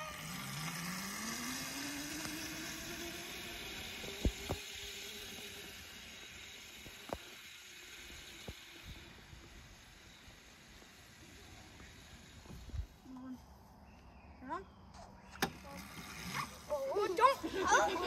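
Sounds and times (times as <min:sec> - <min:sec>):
electric dirt bike motor whining: 0:00.0 - 0:13.3, 0:15.2 - 0:18.0.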